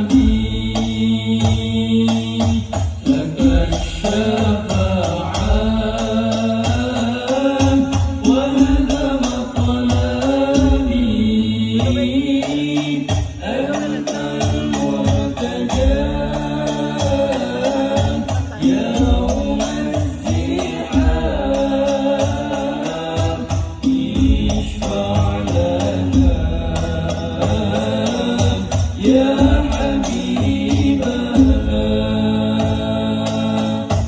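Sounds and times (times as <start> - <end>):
frame drums fast rhythm: 0.0 - 34.0
men chanting in unison: 0.0 - 34.0.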